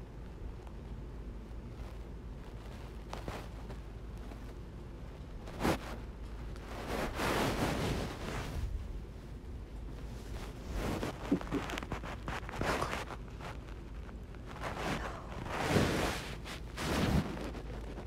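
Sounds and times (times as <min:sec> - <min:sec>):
fabric and bedding rustling: 0:00.6 - 0:18.0.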